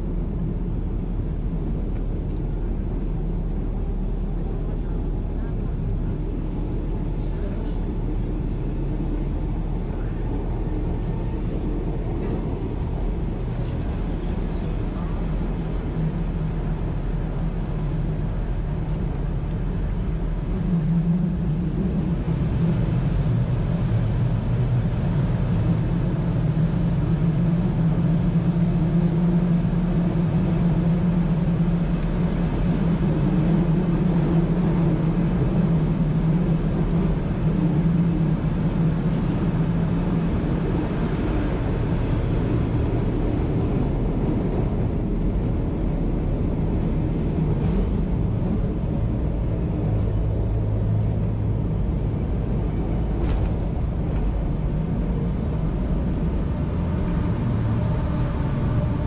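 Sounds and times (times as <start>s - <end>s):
railcar engine drone: 0.0s - 59.0s
running gear rumbling on track: 0.0s - 59.0s.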